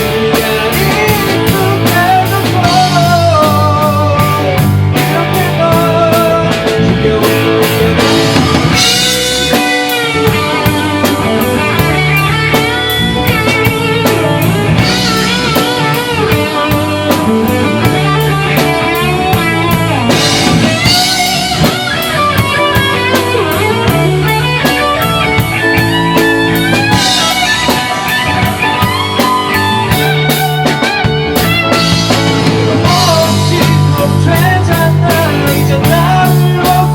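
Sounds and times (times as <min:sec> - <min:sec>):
bass guitar: 0:00.0 - 0:36.9
drums: 0:00.0 - 0:36.9
electric guitar lead line: 0:00.0 - 0:36.9.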